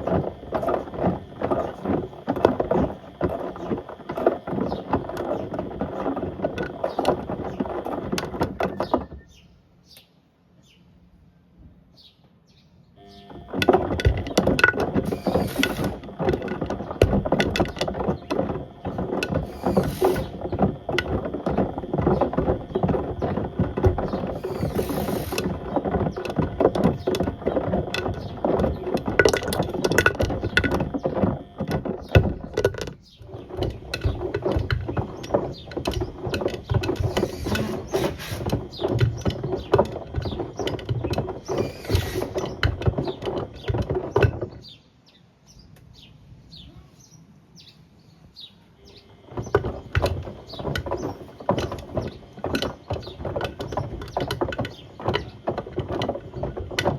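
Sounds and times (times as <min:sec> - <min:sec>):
objects clattering in washing machine drum: 0:00.0 - 0:09.4, 0:13.3 - 0:44.8, 0:49.2 - 0:56.9.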